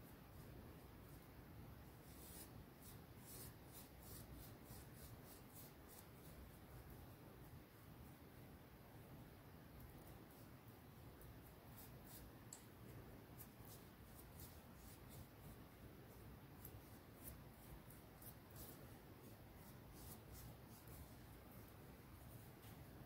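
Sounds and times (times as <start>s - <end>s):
paintbrush strokes: 0.0s - 9.0s, 9.6s - 23.0s.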